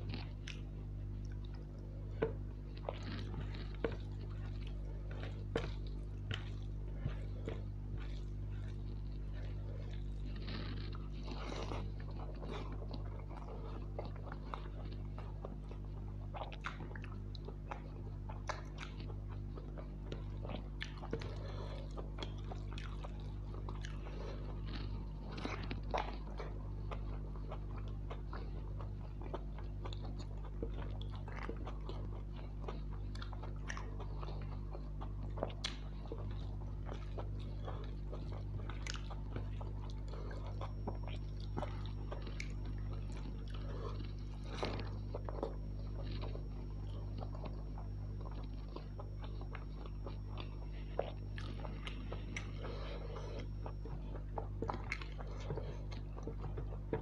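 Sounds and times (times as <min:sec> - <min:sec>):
person chewing with mouth sounds: 0:00.0 - 0:57.0
steady low hum: 0:00.0 - 0:57.0.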